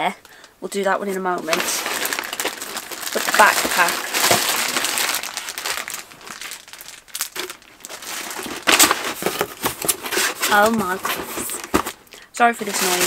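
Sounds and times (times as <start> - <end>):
packing paper crumpling: 1.4 - 13.0.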